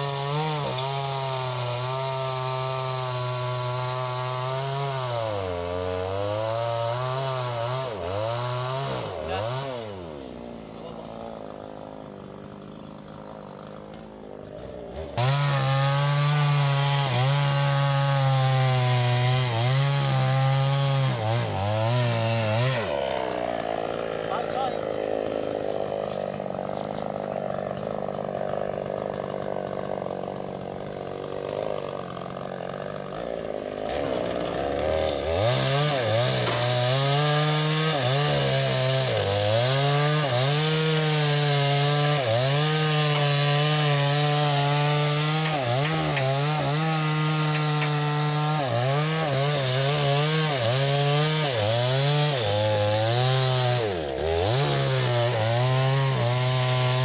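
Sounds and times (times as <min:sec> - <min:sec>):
chainsaw cutting logs: 0:00.0 - 0:57.0.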